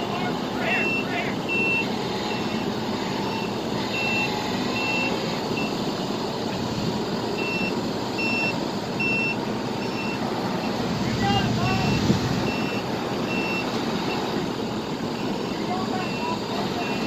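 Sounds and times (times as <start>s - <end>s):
backup alarm beeping: 0.0s - 6.1s, 7.3s - 17.0s
engine rumble: 0.0s - 17.0s.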